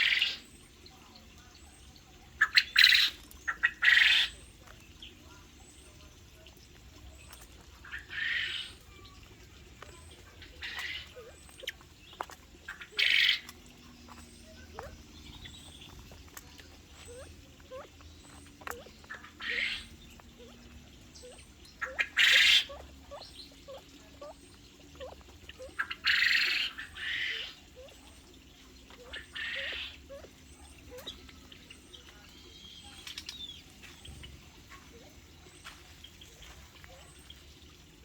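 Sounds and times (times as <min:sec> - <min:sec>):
small birds squawking: 0:00.0 - 0:38.0.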